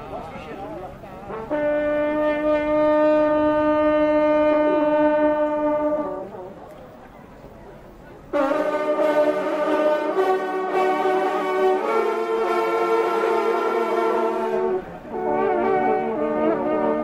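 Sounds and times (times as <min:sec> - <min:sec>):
hunting horns sounding long note: 0:01.3 - 0:06.5, 0:08.3 - 0:17.0.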